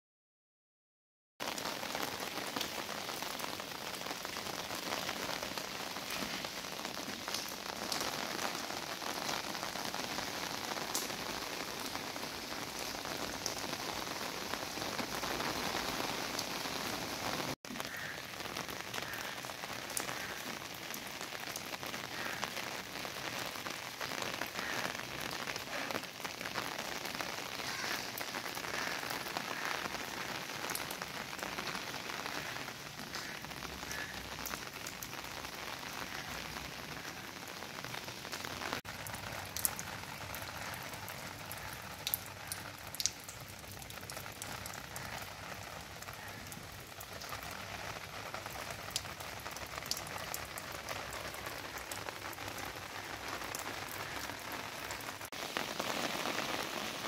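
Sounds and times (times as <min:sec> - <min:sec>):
heavy rain on wet pavement: 0:01.4 - 0:57.0
sharp raindrop hits: 0:01.4 - 0:57.0.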